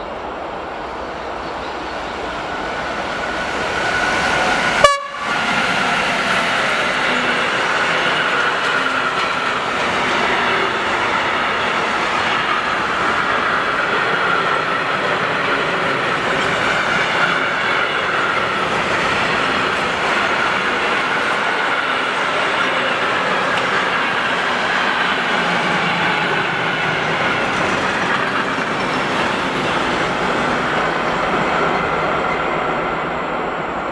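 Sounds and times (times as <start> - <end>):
freight train wheels on rails: 0.0 - 33.9.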